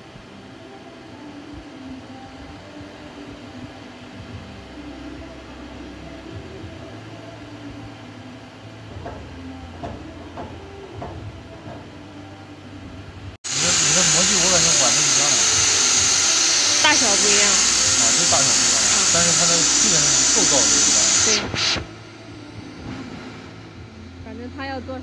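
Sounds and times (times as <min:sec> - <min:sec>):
workshop machinery humming: 0:00.0 - 0:25.0.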